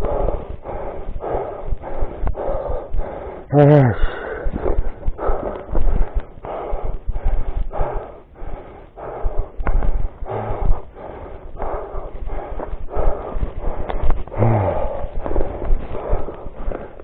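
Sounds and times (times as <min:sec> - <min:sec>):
heavy rhythmic breathing: 0:00.0 - 0:17.0.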